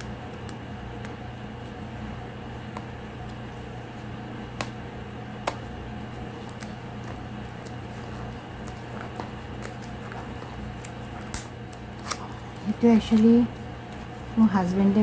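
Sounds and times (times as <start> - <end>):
steady fan-like hum: 0.0 - 15.0.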